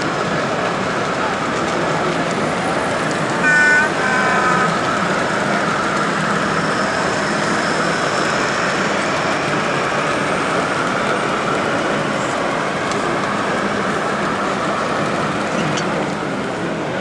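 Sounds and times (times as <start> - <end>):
crowd hubbub: 0.0 - 17.0
model train running past: 0.0 - 17.0.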